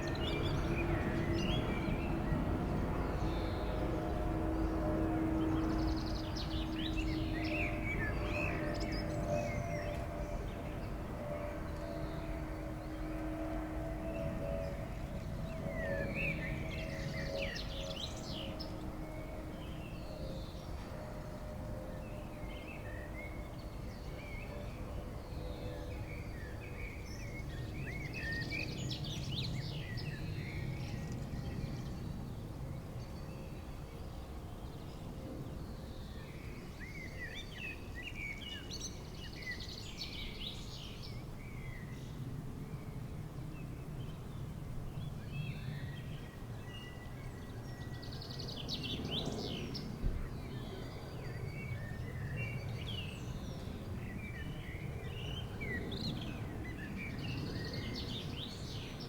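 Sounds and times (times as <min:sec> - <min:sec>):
airliner drone: 0:00.0 - 0:38.0, 0:41.0 - 0:59.0.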